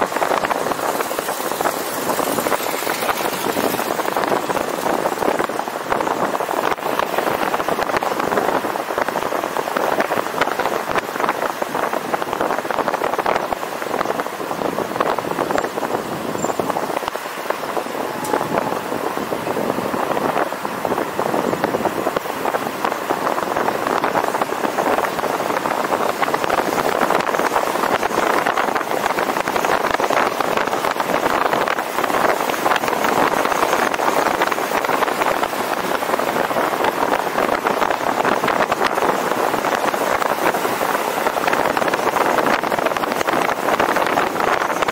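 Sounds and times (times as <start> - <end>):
road noise: 0.0 - 44.9
wind noise: 0.0 - 44.9.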